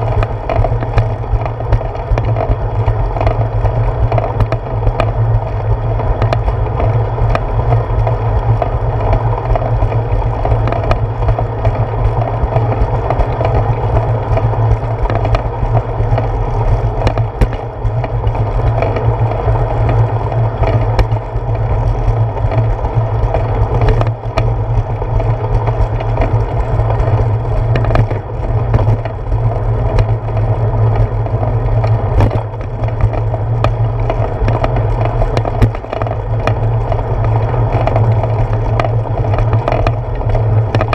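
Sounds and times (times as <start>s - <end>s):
bicycle rumble and rattle: 0.0s - 40.9s.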